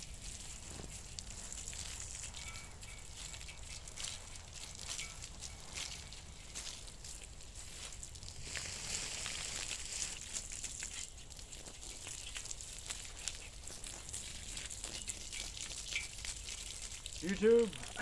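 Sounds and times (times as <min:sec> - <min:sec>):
hose spraying water on metal: 0:00.0 - 0:18.0.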